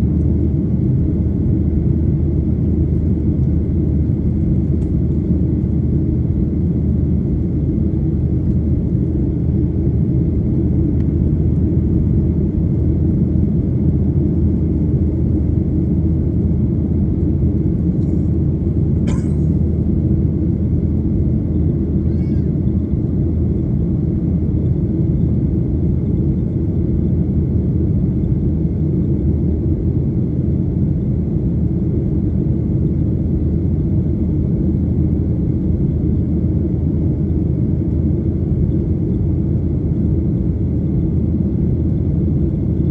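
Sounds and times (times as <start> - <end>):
airliner cabin jet rumble: 0.0 - 42.9.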